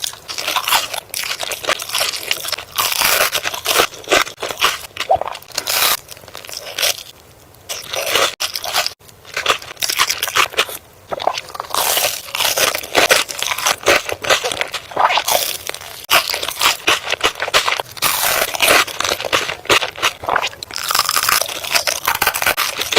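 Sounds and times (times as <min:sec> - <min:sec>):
crunchy food being chewed: 0:00.0 - 0:22.9.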